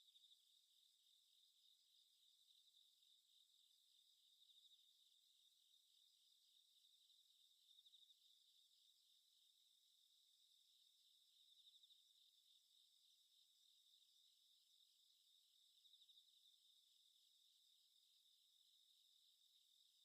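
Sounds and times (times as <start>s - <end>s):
faint crickets chirping: 0.0s - 20.0s.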